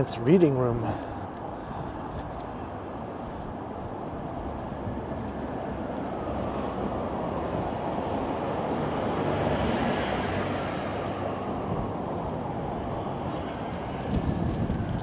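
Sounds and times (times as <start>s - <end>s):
street traffic: 0.0s - 15.0s
wind: 0.0s - 15.0s.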